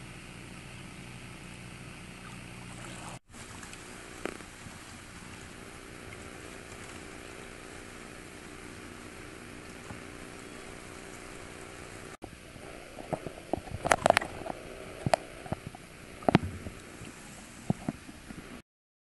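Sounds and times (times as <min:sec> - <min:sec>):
water lapping against kayak hull: 0:02.2 - 0:18.6.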